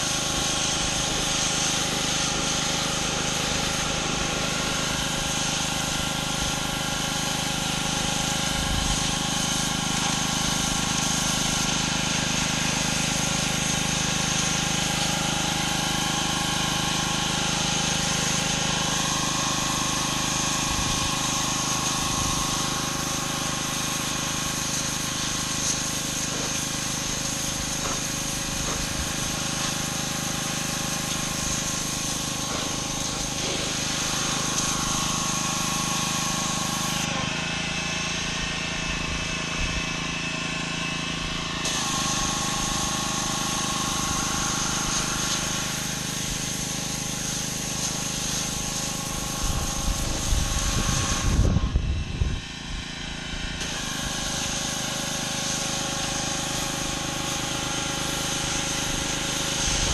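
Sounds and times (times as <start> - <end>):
high-pressure spray hissing on concrete: 0.0 - 51.9, 53.1 - 59.9
pressure washer engine running: 0.0 - 59.9.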